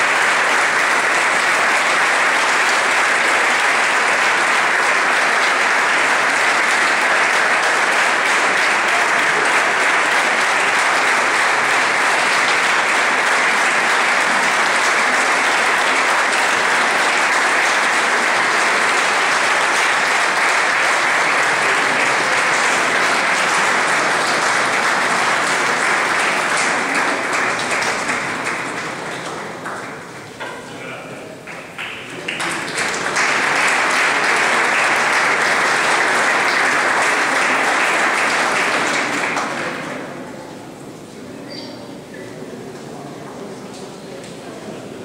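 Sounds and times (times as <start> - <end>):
audience applauding: 0.0 - 40.4.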